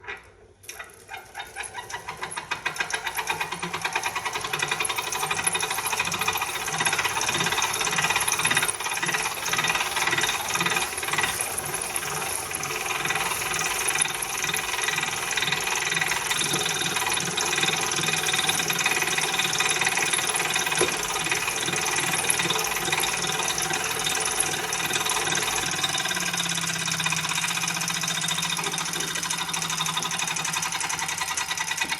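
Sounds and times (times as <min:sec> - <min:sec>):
bike trainer whine: 0:00.0 - 0:31.9.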